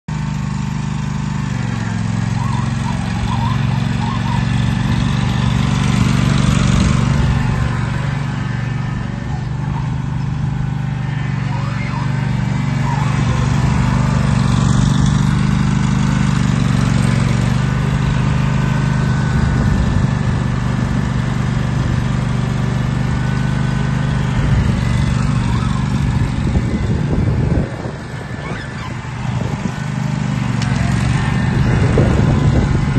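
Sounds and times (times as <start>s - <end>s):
ride-on mower engine running: 0.1s - 32.9s.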